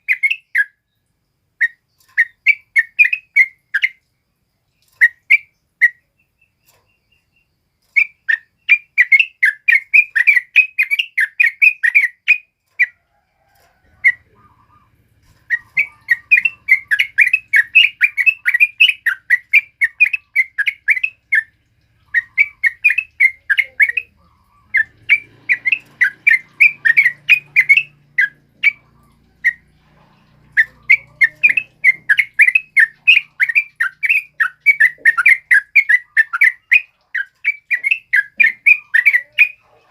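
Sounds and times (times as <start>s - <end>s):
bulbul chattering song: 0.0s - 4.1s, 4.8s - 13.0s, 13.9s - 39.9s.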